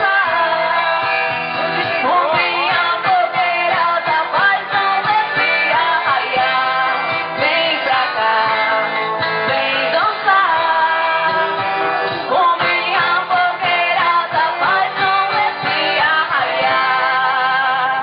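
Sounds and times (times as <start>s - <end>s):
music with sliding melody: 0.0s - 18.0s.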